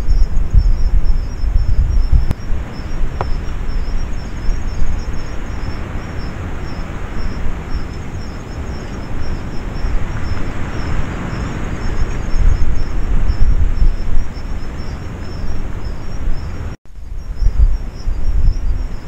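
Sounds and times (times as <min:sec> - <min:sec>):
insect chirping: 0:00.0 - 0:19.0
wind rumble on microphone: 0:00.0 - 0:19.0.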